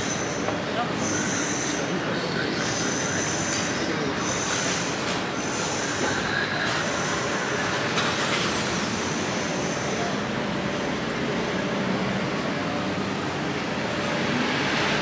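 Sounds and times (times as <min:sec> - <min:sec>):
busy city street din: 0:00.0 - 0:15.0.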